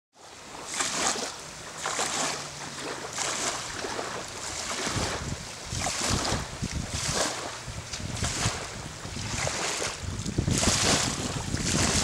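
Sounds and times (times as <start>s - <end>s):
small waves lapping on shore: 0.2s - 12.0s
wind buffeting microphone: 1.9s - 12.0s.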